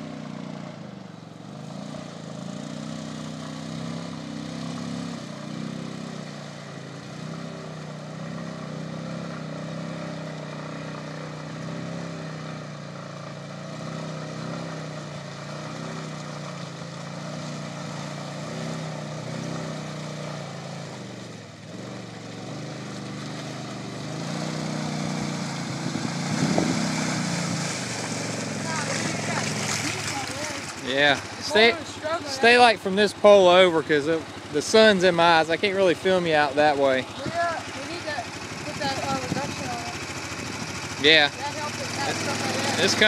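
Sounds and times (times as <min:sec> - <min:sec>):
atv engine revving in mud: 0:00.0 - 0:43.0.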